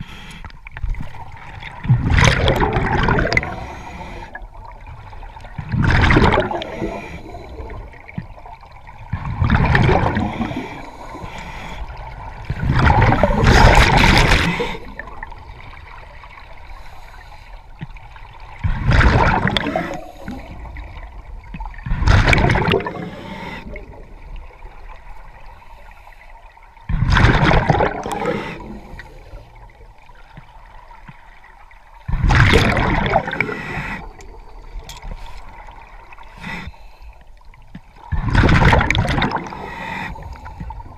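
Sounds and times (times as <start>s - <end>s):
underwater bubbles gurgling: 0.0s - 40.9s.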